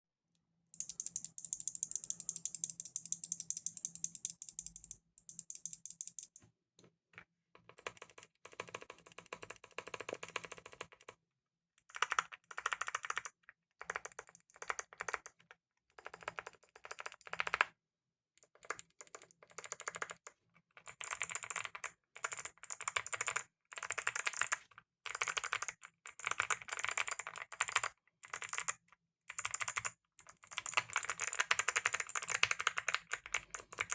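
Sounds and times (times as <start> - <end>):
fast typing on clicky keyboard: 0.8 - 6.4, 7.6 - 11.2, 11.8 - 17.8, 18.5 - 33.9.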